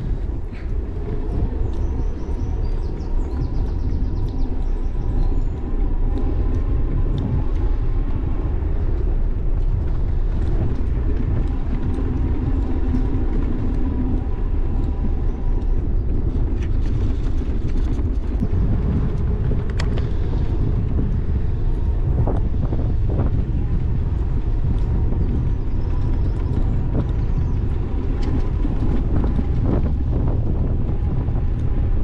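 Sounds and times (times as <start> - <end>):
bike tyres rumbling on bricks: 0.0 - 32.0.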